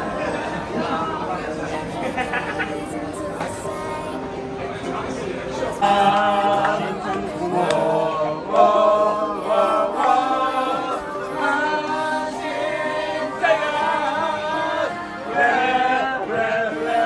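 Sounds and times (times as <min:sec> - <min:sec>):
backing music: 0:00.0 - 0:17.0
group of people singing: 0:00.0 - 0:17.0.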